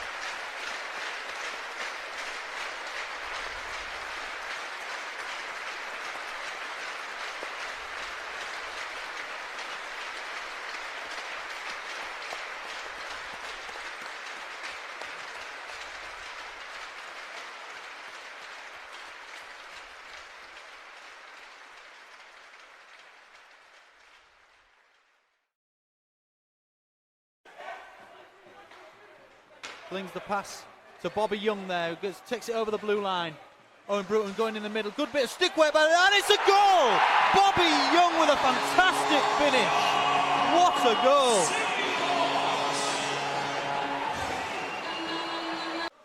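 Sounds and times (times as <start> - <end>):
crowd applauding: 0.0 - 25.0, 34.0 - 46.0.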